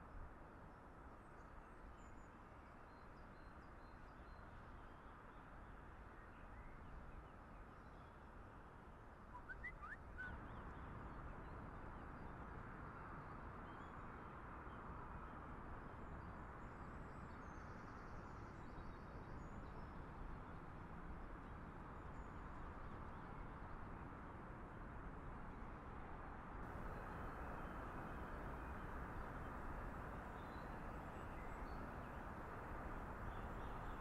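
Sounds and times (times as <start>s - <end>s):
faint outdoor background noise: 0.0s - 34.0s.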